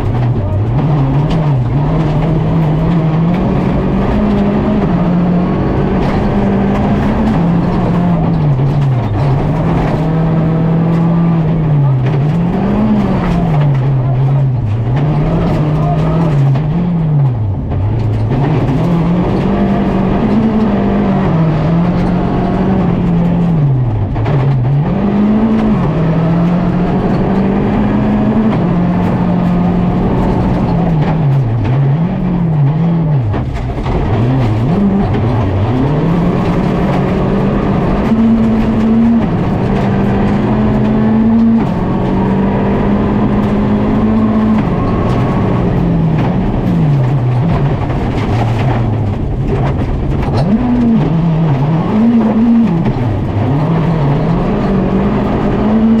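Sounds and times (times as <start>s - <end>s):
rally car engine revving hard: 0.0s - 56.0s.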